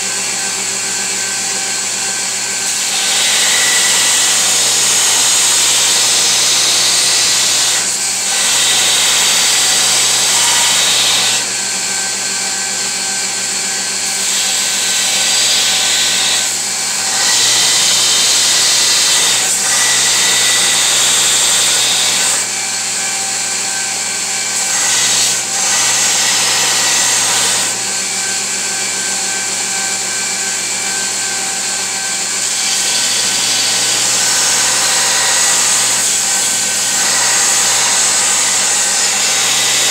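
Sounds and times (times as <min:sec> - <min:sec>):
belt grinder grinding steel: 0:00.0 - 0:39.9.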